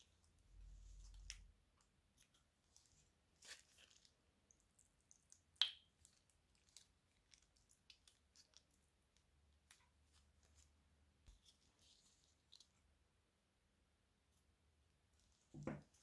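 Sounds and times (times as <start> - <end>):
wet slime squishing: 0.0 - 13.0.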